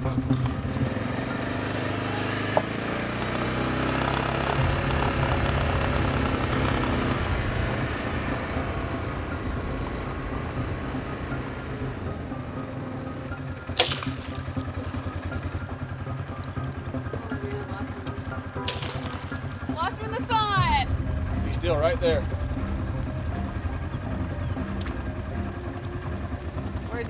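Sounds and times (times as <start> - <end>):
utility vehicle engine running: 0.0 - 27.0.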